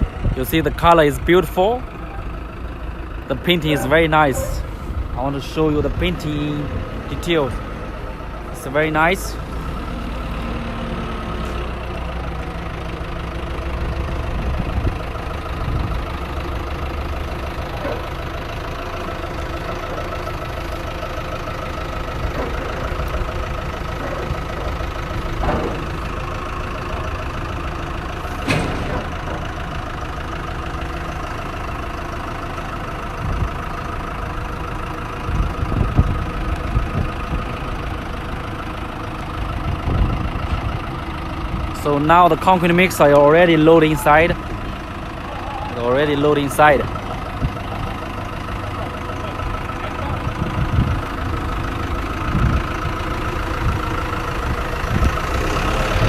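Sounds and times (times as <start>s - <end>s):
vehicle engine running at low revs: 0.0s - 56.0s.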